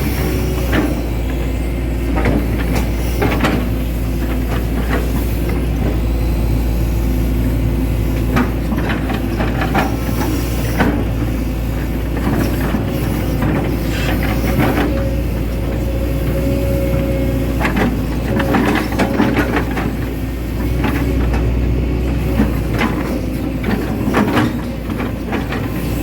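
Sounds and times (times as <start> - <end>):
excavator diesel engine running: 0.0 - 26.0
excavator knocks and clanks: 0.0 - 26.0.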